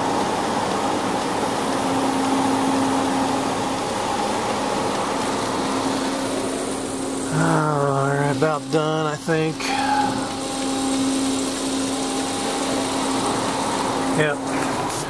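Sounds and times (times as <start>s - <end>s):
machine hum: 0.0s - 15.0s
water spray hissing on car: 0.0s - 15.0s.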